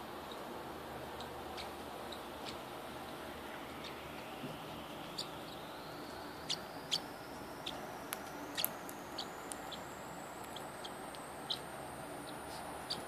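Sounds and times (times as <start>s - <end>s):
steady background hiss: 0.0s - 13.0s
bird chirping: 1.1s - 13.0s.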